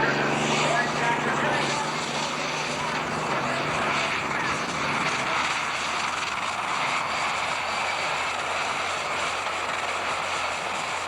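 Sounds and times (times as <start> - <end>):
tractor engine roaring under load: 0.0 - 11.0.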